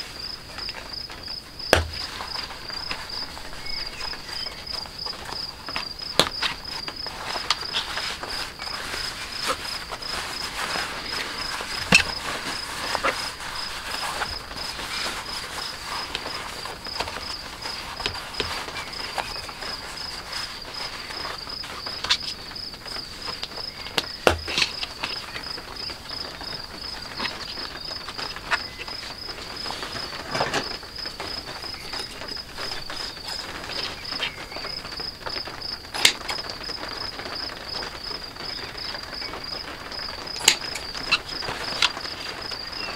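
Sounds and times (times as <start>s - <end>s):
cricket chirping: 0.0s - 42.9s
cloth and leather handled: 0.5s - 35.0s.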